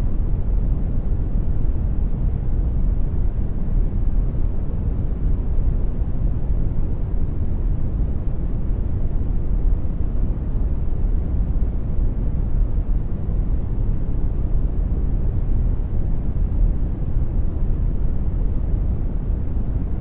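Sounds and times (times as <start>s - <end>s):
brown noise rumbling hiss: 0.0s - 20.0s.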